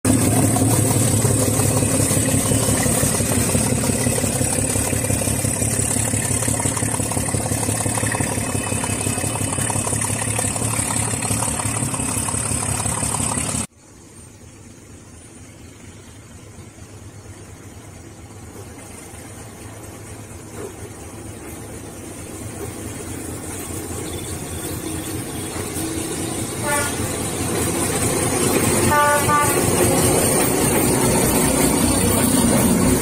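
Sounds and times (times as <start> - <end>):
diesel locomotive engine running: 0.0 - 33.0.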